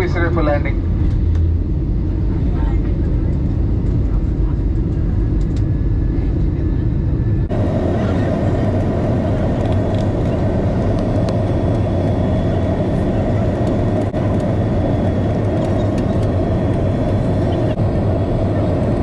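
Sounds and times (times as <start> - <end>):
airliner cabin engine noise: 0.0 - 19.0.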